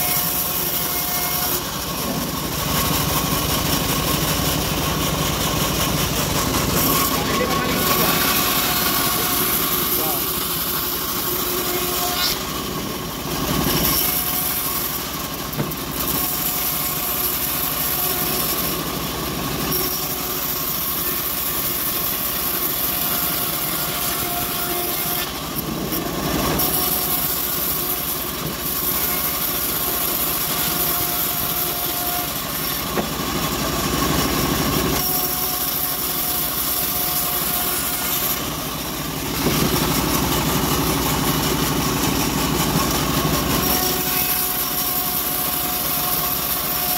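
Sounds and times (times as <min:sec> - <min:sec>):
bandsaw blade cutting wood: 0:00.0 - 0:46.9
steady machine noise: 0:00.0 - 0:46.9.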